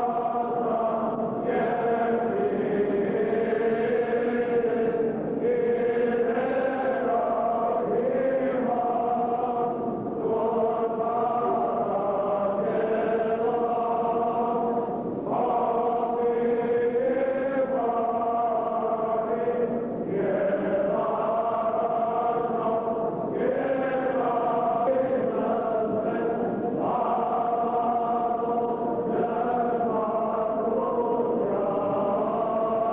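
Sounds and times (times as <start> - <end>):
voices chanting long notes: 0.0 - 32.9.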